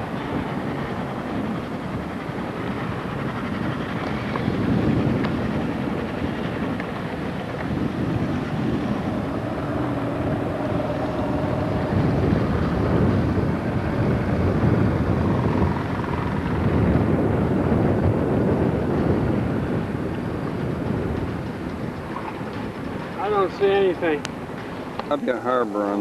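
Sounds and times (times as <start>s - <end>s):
boat engine running: 0.0s - 26.0s
wind and water rushing: 0.0s - 26.0s.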